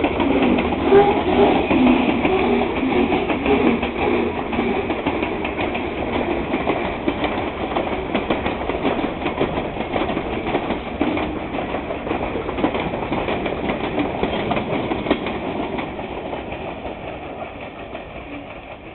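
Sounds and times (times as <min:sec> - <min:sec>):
train wheels clattering on rails: 0:00.0 - 0:18.9.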